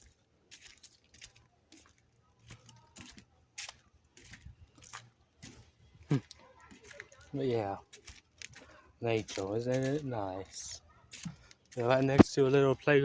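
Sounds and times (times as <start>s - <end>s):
faint footsteps: 0.0s - 12.6s.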